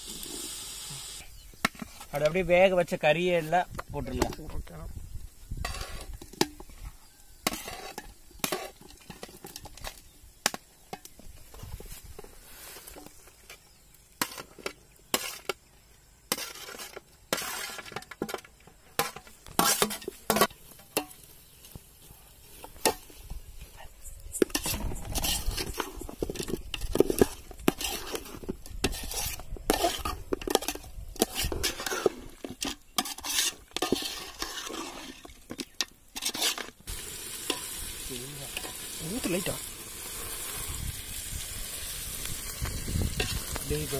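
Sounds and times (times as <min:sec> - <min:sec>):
food sizzling: 0:00.0 - 0:18.1, 0:24.0 - 0:43.9
stirring and scraping in pot: 0:01.4 - 0:04.6, 0:05.4 - 0:40.9, 0:42.6 - 0:43.9.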